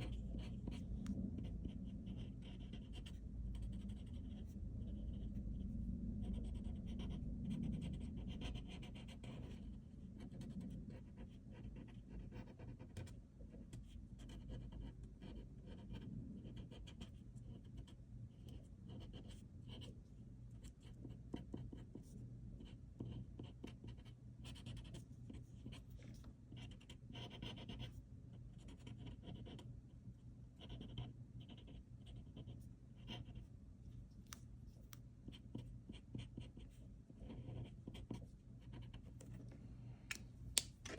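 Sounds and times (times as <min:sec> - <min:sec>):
pen scratching on paper: 0:00.0 - 0:20.0, 0:20.6 - 0:28.0, 0:28.6 - 0:29.6, 0:30.6 - 0:33.5, 0:34.8 - 0:39.2
faint low hum: 0:00.0 - 0:40.9.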